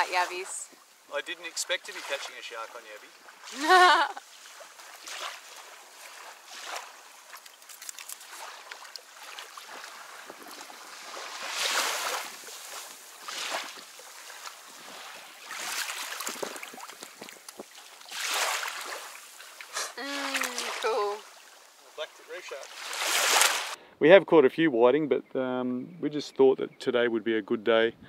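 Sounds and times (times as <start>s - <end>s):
shallow water splashing: 0.0s - 23.8s.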